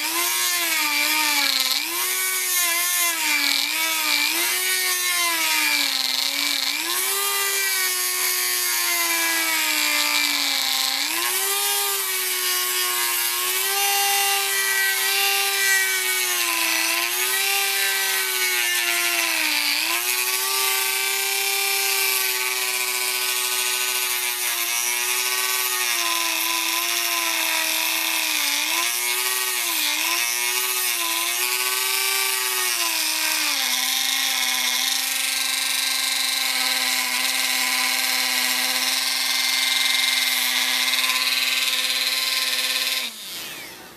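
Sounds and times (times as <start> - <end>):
rotary tool grinding: 0.0 - 43.9.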